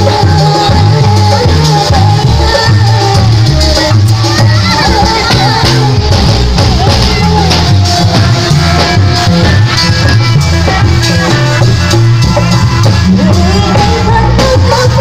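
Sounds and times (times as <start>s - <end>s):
amplified melody with heavy bass: 0.0s - 15.0s
drums and cymbals beat: 0.0s - 15.0s
street band playing loudly: 0.0s - 15.0s.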